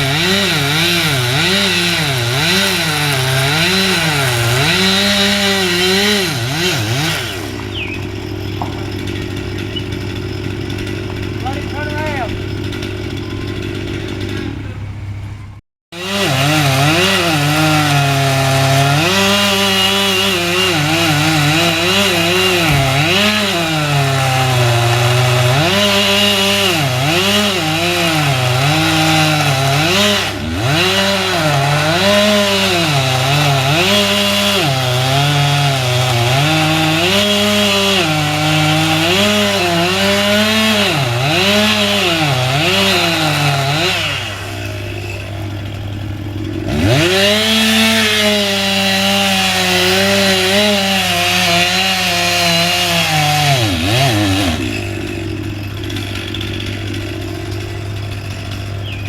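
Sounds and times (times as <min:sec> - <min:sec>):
chainsaw cutting wood: 0:00.0 - 0:15.0, 0:15.9 - 0:59.0.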